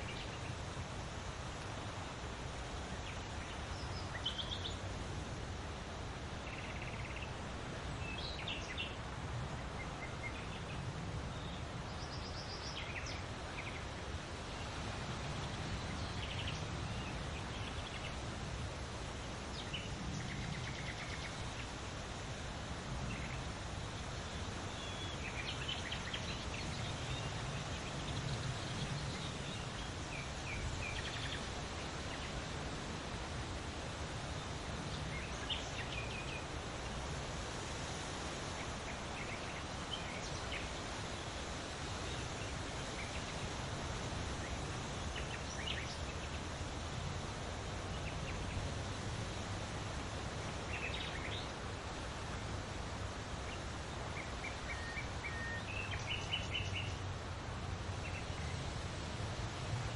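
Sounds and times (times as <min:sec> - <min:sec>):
wind rustling large leaves: 0:00.0 - 0:59.9.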